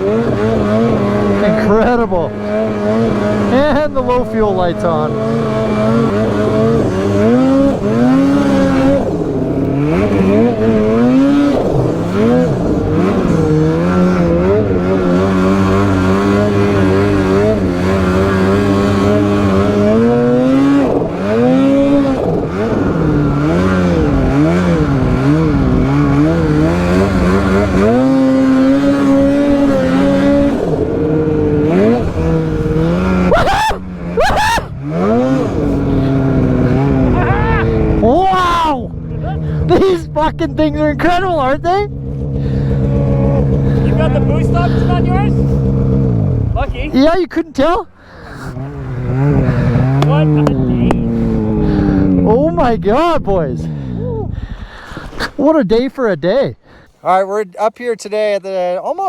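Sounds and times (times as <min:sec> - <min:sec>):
snowmobile engine revving: 0:00.0 - 0:58.4.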